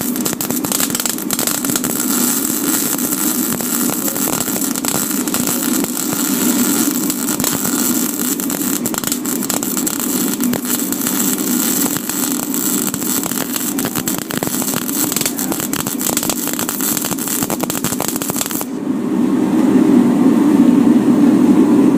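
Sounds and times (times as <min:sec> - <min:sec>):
welder arc crackling: 0:00.0 - 0:18.8
steady low hum: 0:00.0 - 0:21.9.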